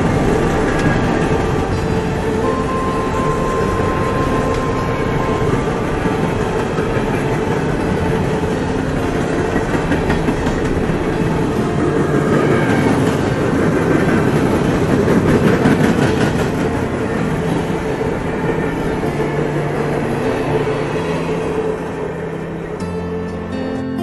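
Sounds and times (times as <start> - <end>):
rhythmic clicking of wheels: 0.0 - 23.8
freight train wheels rumbling: 0.0 - 24.0.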